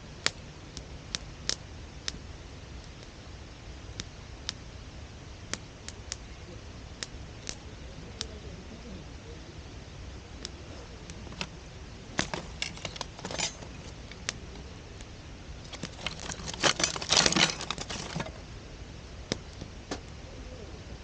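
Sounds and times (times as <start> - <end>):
faint hiss: 0.0 - 16.0, 18.1 - 21.0
campfire crackling: 0.0 - 20.2.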